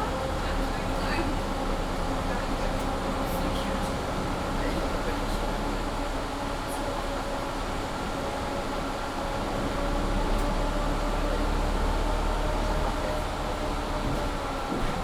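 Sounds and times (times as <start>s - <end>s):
bus engine rumble with whine: 0.0s - 15.0s.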